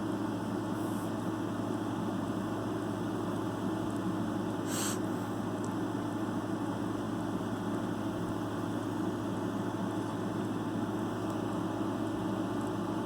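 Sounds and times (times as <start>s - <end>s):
steady low hum with hiss: 0.0s - 13.0s.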